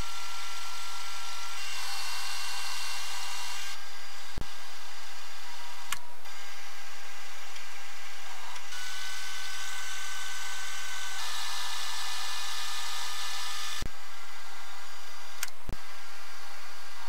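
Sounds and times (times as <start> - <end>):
milling machine whine: 0.0 - 17.0.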